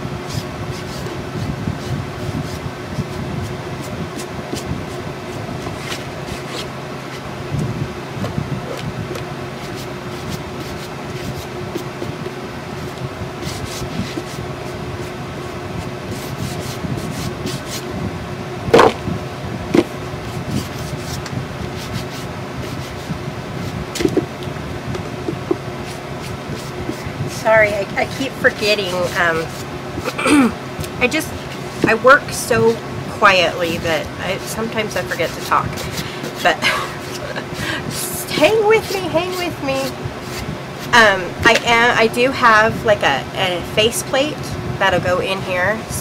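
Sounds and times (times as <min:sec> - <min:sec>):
steady background hum: 0:00.0 - 0:46.0.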